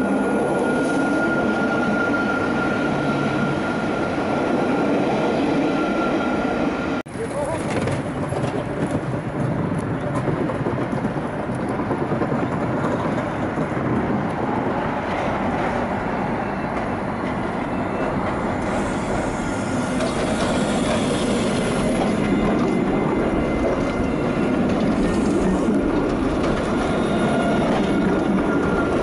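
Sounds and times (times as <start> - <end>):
tram rolling on rails: 0.0 - 29.0.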